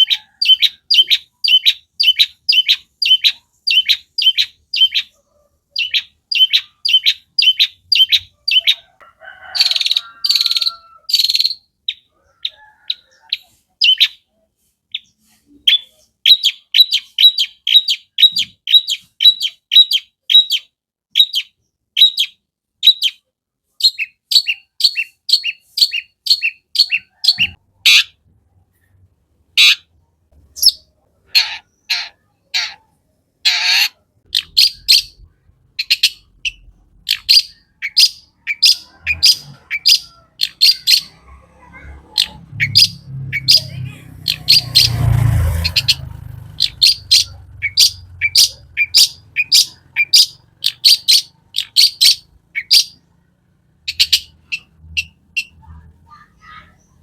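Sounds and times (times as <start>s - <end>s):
bird chattering: 0.0s - 23.2s, 23.8s - 28.9s, 29.5s - 57.0s.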